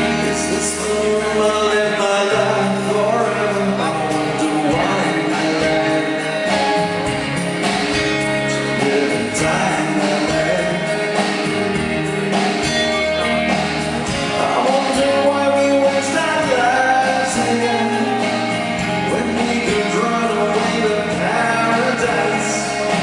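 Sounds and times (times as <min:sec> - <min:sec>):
amplified guitar: 0:00.0 - 0:23.0
live rock band: 0:00.0 - 0:23.0
person singing: 0:00.0 - 0:23.0.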